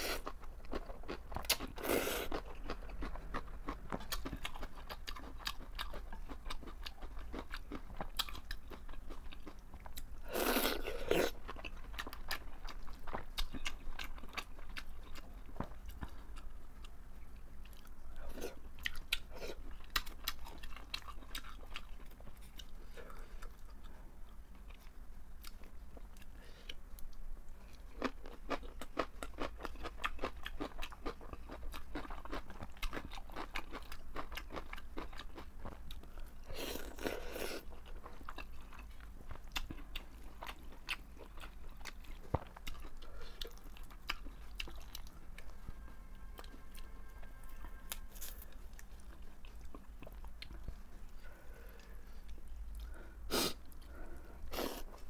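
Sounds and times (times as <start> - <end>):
crunchy chewing: 0.0 - 16.9, 17.6 - 53.0.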